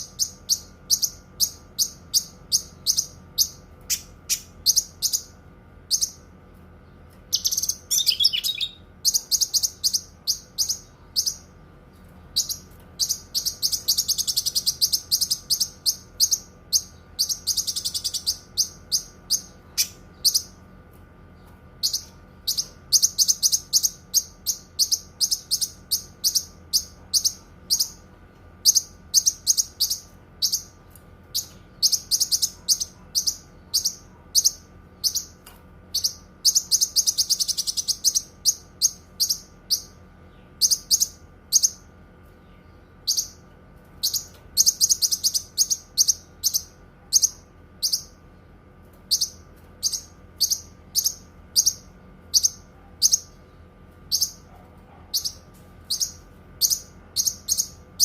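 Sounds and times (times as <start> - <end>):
bird chirping and trilling: 0.0 - 20.6, 21.4 - 43.4, 44.0 - 48.2, 49.1 - 58.0
faint steady hum: 0.0 - 58.0.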